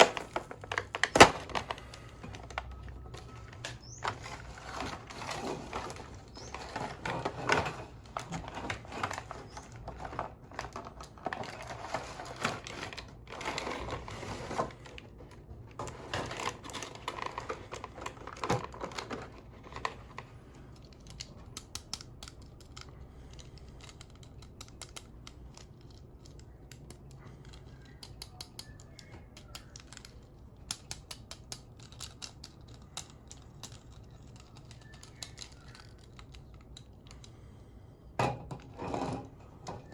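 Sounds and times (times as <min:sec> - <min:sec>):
packaging rustling and crinkling: 0:00.0 - 0:37.5.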